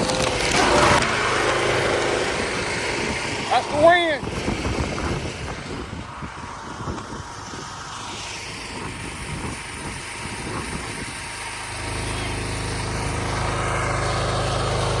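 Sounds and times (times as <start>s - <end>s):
wind buffeting microphone: 0.0s - 13.6s
low engine hum: 0.0s - 15.0s.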